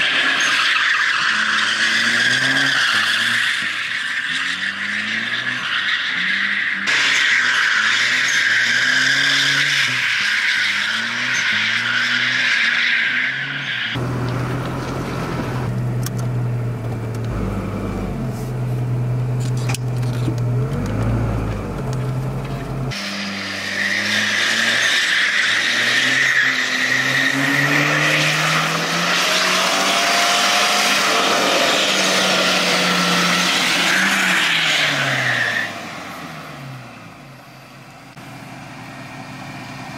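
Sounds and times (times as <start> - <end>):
car engine revving: 4.3 - 37.4.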